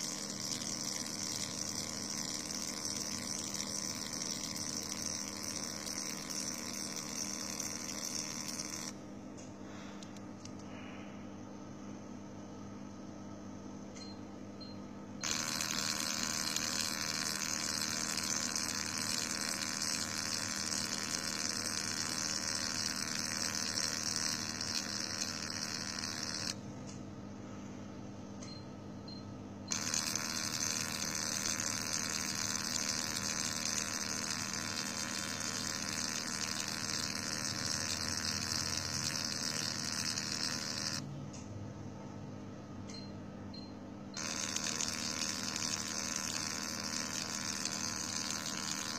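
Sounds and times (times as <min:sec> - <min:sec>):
laser machine humming: 0:00.0 - 0:09.0, 0:14.0 - 0:27.0, 0:28.4 - 0:41.2, 0:42.9 - 0:48.9.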